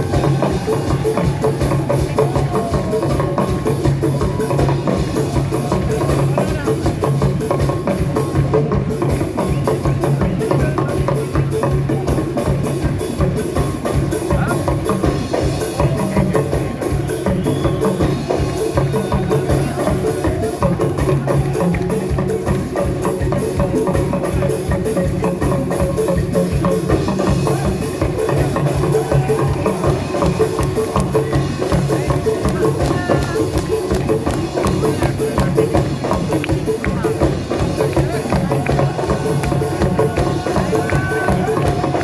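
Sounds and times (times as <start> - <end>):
bass line: 0.0 - 42.0
drum and percussion beat: 0.0 - 42.0.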